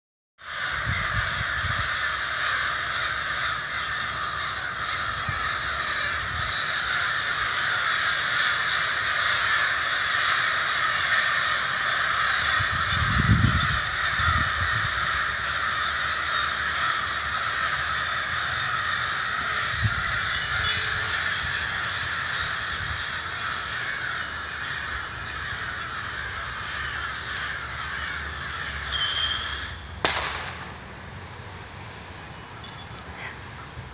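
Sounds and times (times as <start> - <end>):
flock of crows cawing: 0.4 - 30.7, 32.5 - 33.9.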